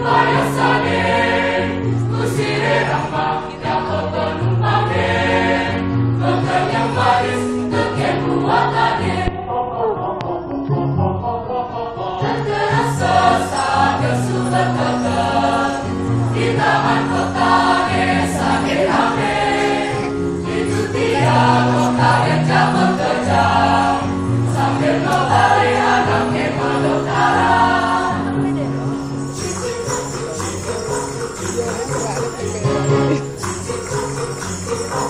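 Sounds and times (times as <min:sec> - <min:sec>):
choir singing in harmony: 0:00.0 - 0:31.6, 0:32.4 - 0:35.0.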